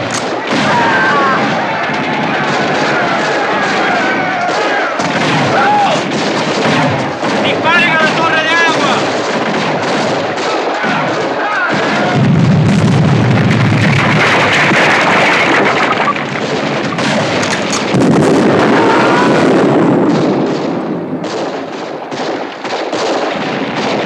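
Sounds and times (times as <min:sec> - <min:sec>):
explosions: 0:00.0 - 0:24.0
gunfire: 0:00.0 - 0:24.0
sharp gunshots: 0:00.0 - 0:24.0.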